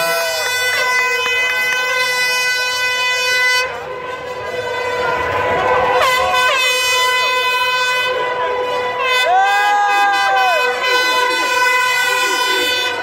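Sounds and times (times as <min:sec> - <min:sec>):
crowd noise: 0:00.0 - 0:13.0
horn steady high note: 0:00.0 - 0:13.0
short horn toots: 0:00.2 - 0:13.0.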